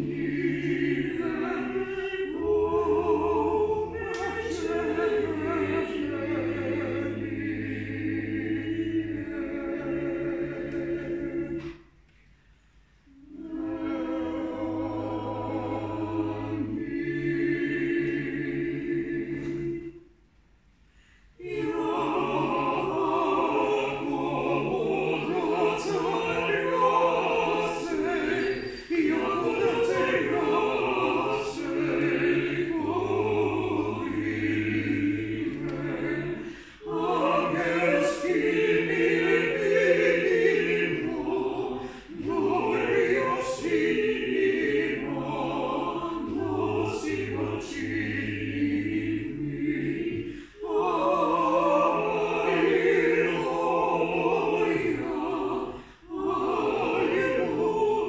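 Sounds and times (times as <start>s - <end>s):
vocal ensemble singing a cappella: 0.0s - 58.0s.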